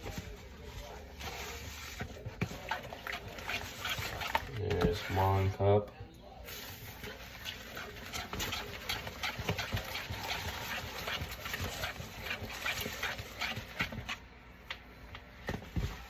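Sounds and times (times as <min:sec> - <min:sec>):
whisk beating batter in bowl: 0:00.0 - 0:05.4, 0:06.5 - 0:14.2.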